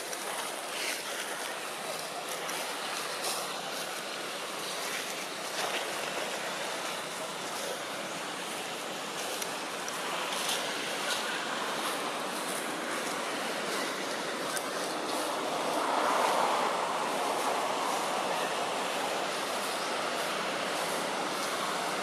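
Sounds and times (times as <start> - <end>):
steady rushing background noise: 0.0 - 22.0.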